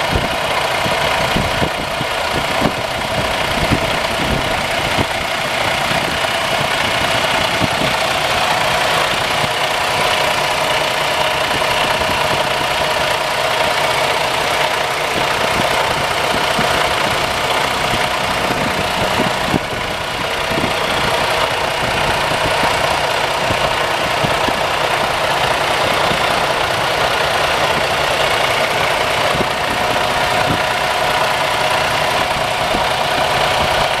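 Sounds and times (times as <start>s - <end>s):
diesel truck engine idling: 0.0s - 34.0s.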